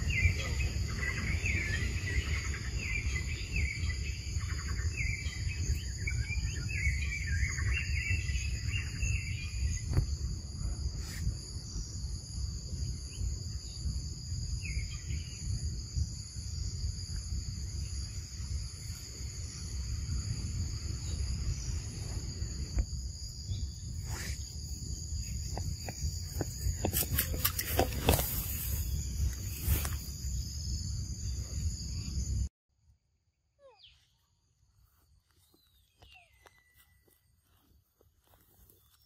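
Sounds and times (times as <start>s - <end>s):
insect chorus: 0.0s - 32.5s, 33.6s - 39.0s.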